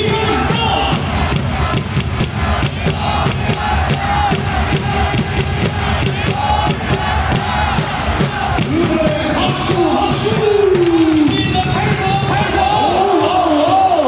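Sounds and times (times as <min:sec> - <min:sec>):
cheer song over loudspeakers: 0:00.0 - 0:14.0
crowd shouting and chanting: 0:00.0 - 0:14.0
drum beat: 0:00.0 - 0:14.0.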